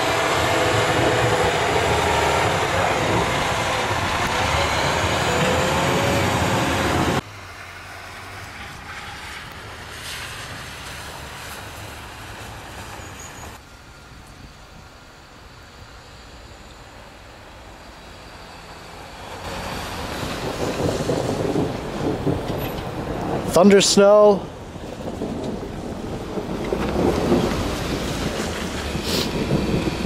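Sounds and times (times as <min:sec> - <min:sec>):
vehicle rushing on road: 0:00.0 - 0:30.0.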